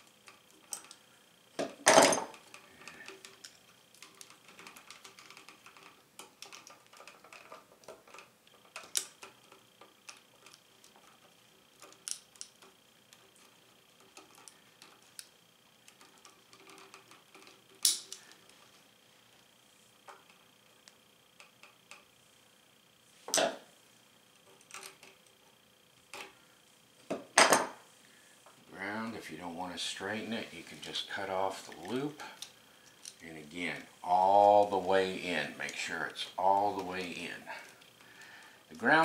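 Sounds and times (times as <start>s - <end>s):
small clicks and rustles of wiring: 0.0s - 22.2s, 24.3s - 27.2s, 30.0s - 39.0s.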